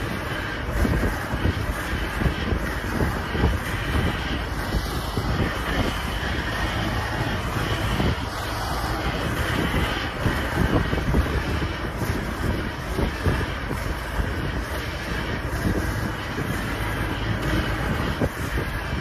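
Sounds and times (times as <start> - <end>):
car road rumble: 0.0 - 19.0
wind buffeting microphone: 0.0 - 19.0.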